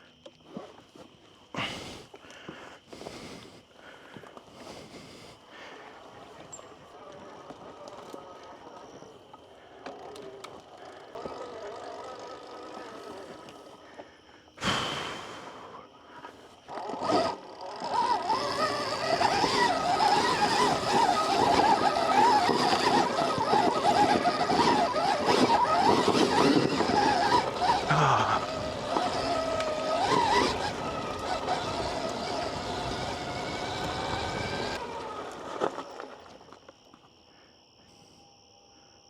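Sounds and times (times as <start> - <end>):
electric motorbike motor whining: 3.0 - 36.9.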